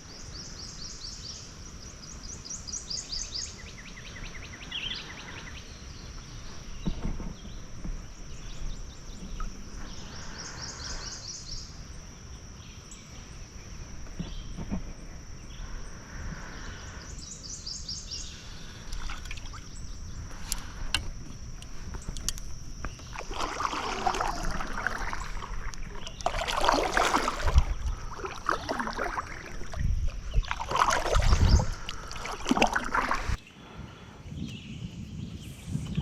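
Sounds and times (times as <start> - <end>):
songbirds trilling: 0.0 - 35.6.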